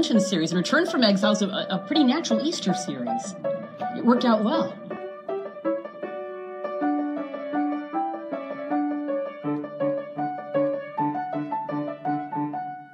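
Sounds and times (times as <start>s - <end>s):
gentle piano melody: 0.0s - 12.9s
repeating low piano notes: 0.0s - 12.9s.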